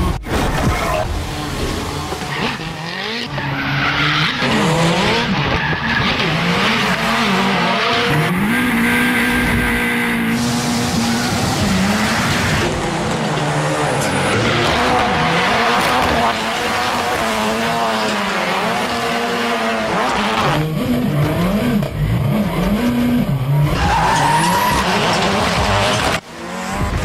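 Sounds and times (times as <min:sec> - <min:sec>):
engine revving: 0:01.1 - 0:27.0.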